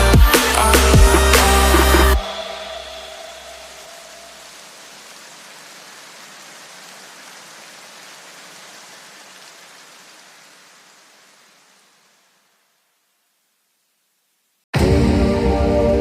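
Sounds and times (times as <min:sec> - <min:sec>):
steady rain-like hiss: 0:00.0 - 0:14.7.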